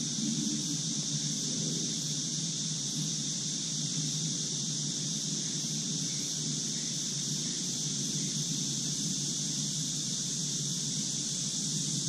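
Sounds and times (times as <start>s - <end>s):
continuous high hiss: 0.0s - 12.0s.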